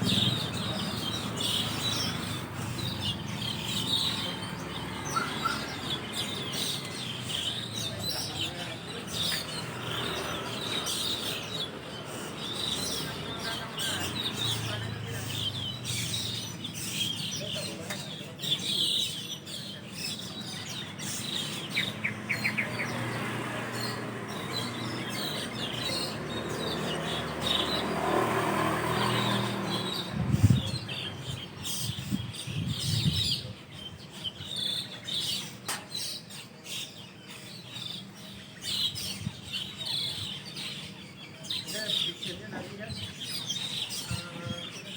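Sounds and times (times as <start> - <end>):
starlings chirping: 0.0 - 44.9.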